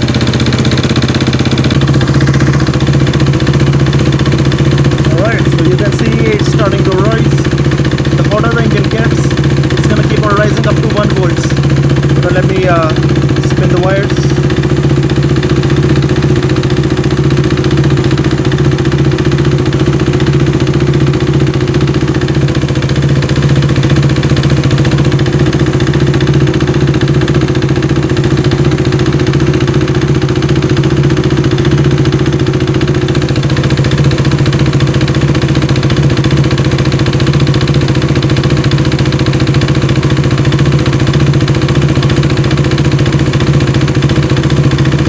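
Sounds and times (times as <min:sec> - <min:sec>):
motorcycle engine idling: 0:00.0 - 0:45.0.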